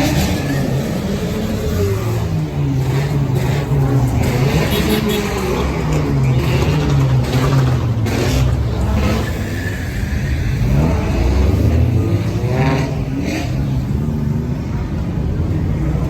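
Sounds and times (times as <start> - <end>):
engine revving up: 0.0 - 14.1
car engines running: 0.0 - 16.0.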